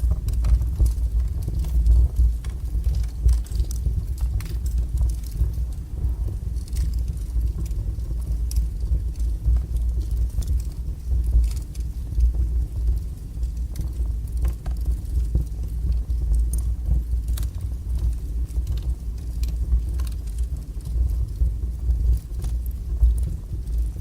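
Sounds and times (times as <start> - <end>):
logs crackling and popping: 0.0 - 24.0
wood fire roaring: 0.0 - 24.0.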